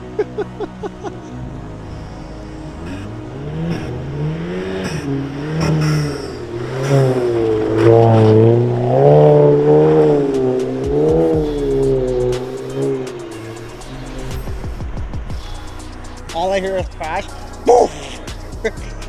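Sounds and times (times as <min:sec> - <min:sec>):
car engine revving hard: 0:00.0 - 0:19.0.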